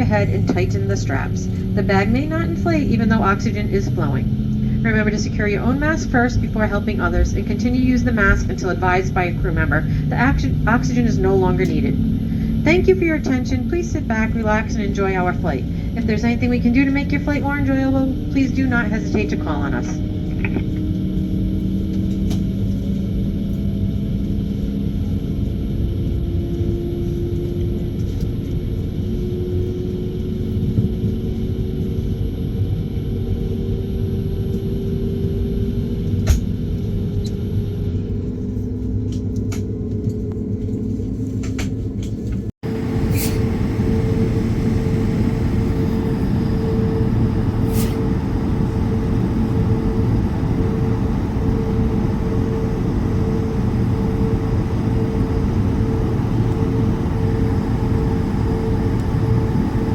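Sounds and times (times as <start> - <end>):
jet engine hum and rumble: 0.0 - 59.9.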